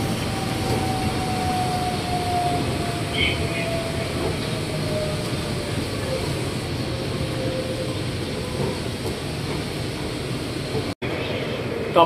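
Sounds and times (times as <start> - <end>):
monorail train running noise: 0.0 - 12.0.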